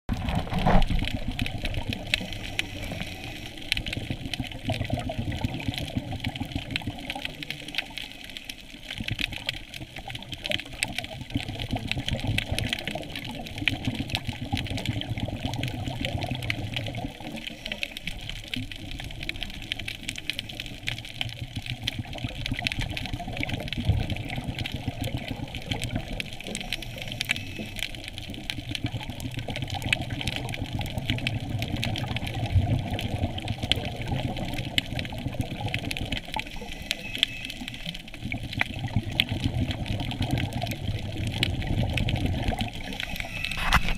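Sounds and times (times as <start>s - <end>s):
crackle of fine clicks: 0.1s - 43.9s
muffled underwater water rush: 0.1s - 43.9s.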